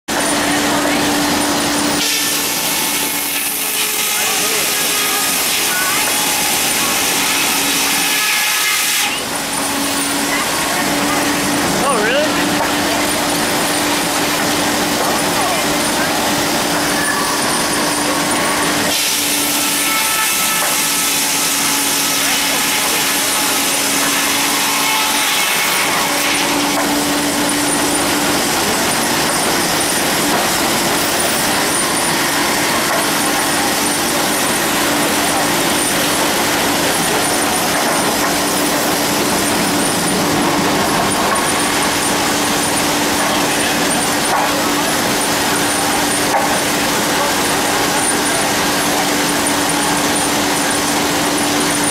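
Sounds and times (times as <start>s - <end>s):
sawmill running: 0.0s - 51.9s.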